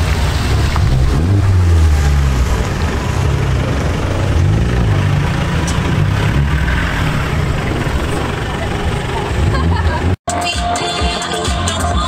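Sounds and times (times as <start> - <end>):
car engine at low revs: 0.0 - 10.2.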